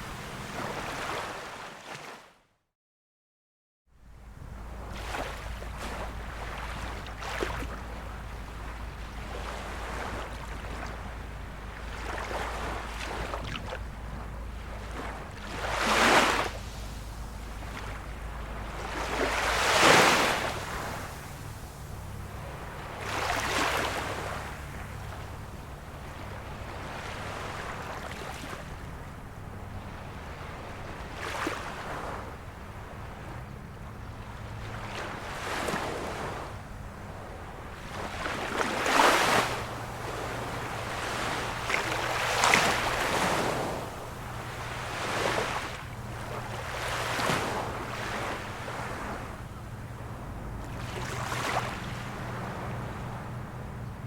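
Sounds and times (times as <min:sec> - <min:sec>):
small waves washing in: 0:00.0 - 0:02.3, 0:04.0 - 0:54.0
steady low rumble: 0:03.9 - 0:38.8, 0:39.6 - 0:54.0
steady low hum: 0:04.0 - 0:54.0.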